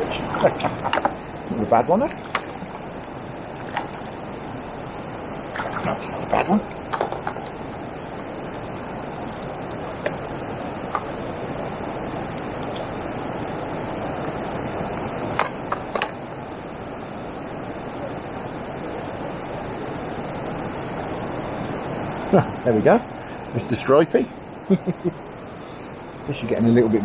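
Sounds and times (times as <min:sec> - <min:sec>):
water rushing over a weir: 0:00.0 - 0:22.4
wind: 0:00.0 - 0:27.0.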